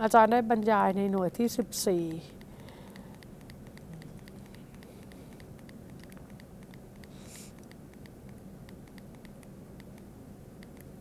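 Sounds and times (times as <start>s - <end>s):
low steady hum: 0.0s - 11.0s
rapid regular ticking: 0.6s - 11.0s.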